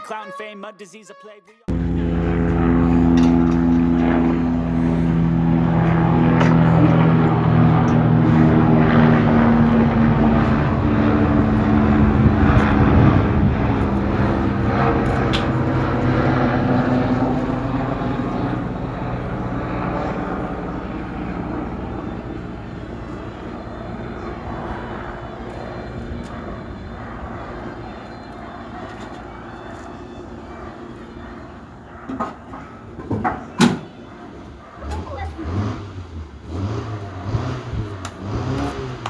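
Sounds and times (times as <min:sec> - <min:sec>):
helicopter engines and rotor: 0:01.7 - 0:39.0.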